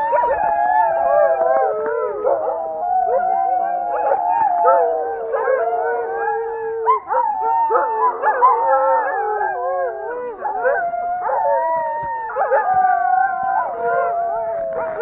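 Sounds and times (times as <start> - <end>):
dogs yelping: 0.0 - 15.0
sled dogs howling: 0.0 - 15.0.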